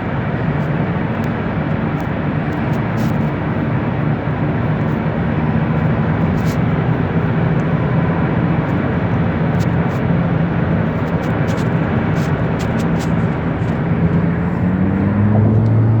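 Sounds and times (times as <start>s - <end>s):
low engine hum: 0.0s - 16.0s
tyre and road noise: 0.0s - 16.0s.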